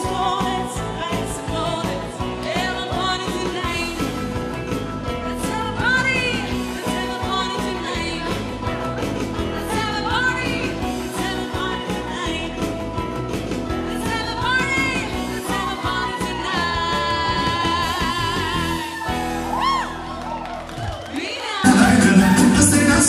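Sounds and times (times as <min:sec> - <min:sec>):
upbeat dance music: 0:00.0 - 0:18.8, 0:21.6 - 0:23.0.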